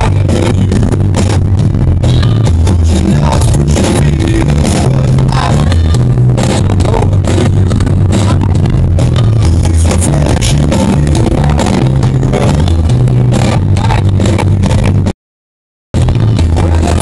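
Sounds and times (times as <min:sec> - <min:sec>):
live band playing dance-pop: 0:00.0 - 0:15.1, 0:16.0 - 0:17.0
strong bassline: 0:00.0 - 0:15.1, 0:16.0 - 0:17.0.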